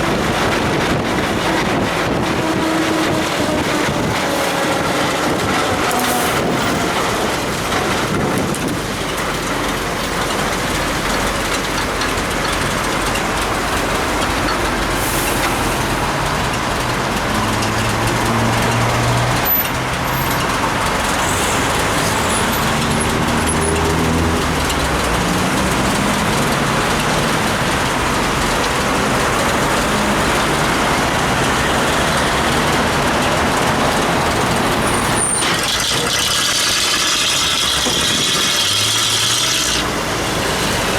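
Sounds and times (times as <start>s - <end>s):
bicycle tyres on wet road: 0.0s - 40.9s
vehicle engine running: 0.0s - 40.9s.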